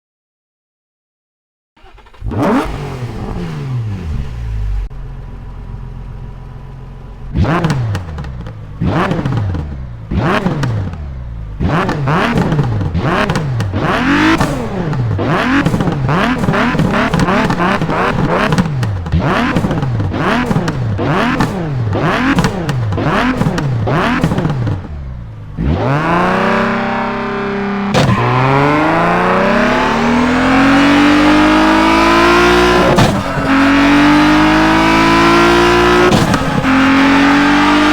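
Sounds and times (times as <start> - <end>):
race car engine revving: 1.8 - 4.9, 7.2 - 37.9.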